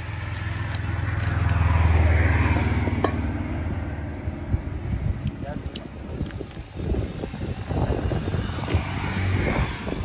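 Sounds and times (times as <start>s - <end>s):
vehicle passing by: 0.0s - 5.3s, 6.7s - 10.0s.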